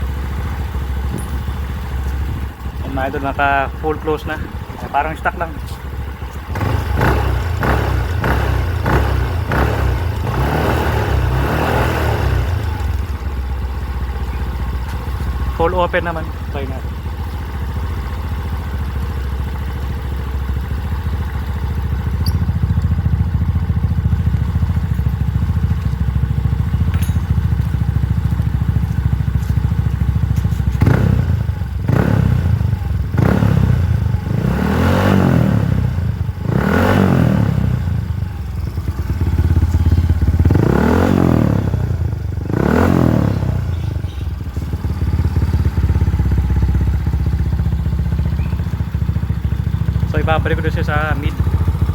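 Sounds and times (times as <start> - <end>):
scooter engine idling: 0.0 - 51.9
scooter engine revving: 0.0 - 51.9.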